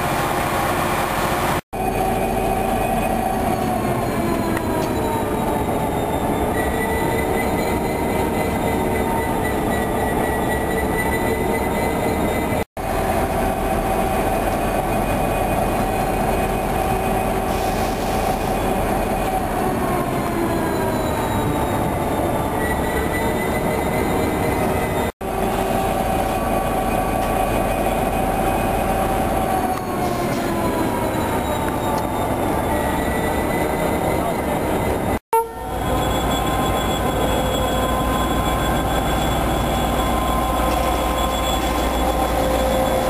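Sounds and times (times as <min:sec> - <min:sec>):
diesel locomotive engine running: 0:00.0 - 0:43.0.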